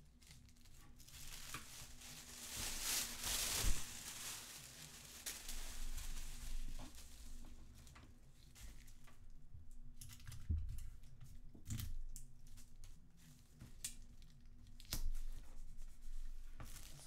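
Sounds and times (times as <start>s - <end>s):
paper rustling and crinkling: 0.0s - 9.2s, 10.1s - 17.0s.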